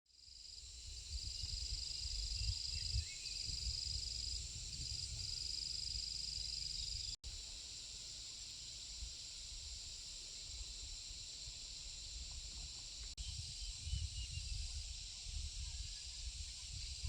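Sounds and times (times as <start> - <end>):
insects trilling: 0.2 - 17.0.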